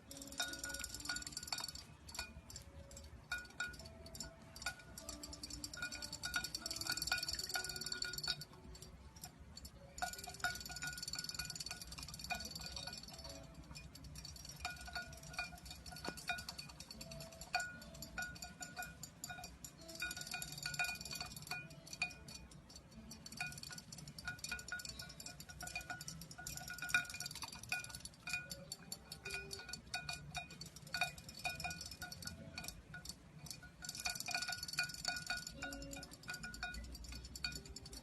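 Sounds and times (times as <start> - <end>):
tinkling chime-like notes: 0.0 - 38.0.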